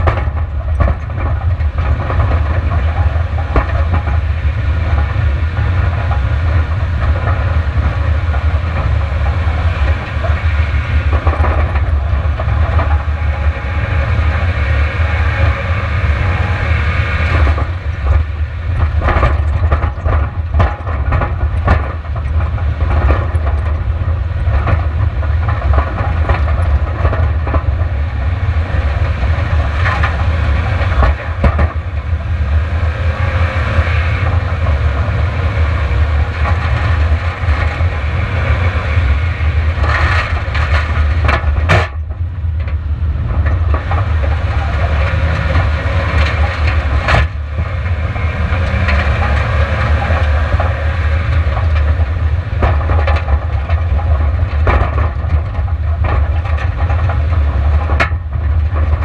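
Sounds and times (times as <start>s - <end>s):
car rumble on gravel: 0.0s - 59.0s.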